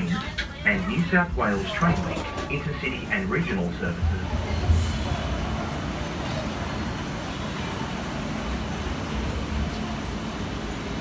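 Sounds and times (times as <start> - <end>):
busy station ambience: 0.0 - 11.0
traffic rumble: 0.0 - 11.0.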